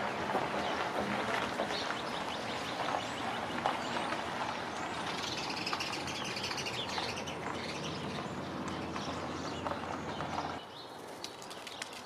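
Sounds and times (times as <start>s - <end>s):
small birds chirping: 0.0s - 12.0s
traffic noise: 0.0s - 12.0s.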